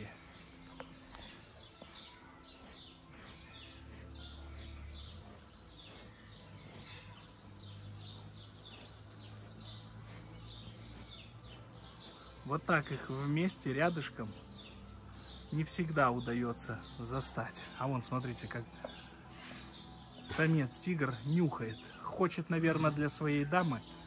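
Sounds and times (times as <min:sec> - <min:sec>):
songbirds high chirps: 0:00.0 - 0:24.0.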